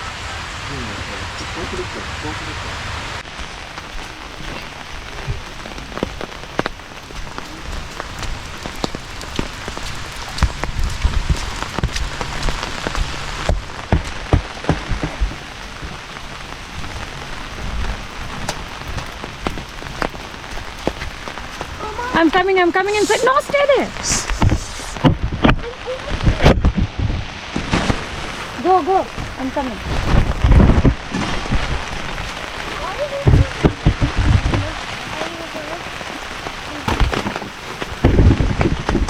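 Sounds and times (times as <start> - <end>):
big raindrops tapping: 0.0 - 39.0
heavy rain falling: 0.0 - 39.0.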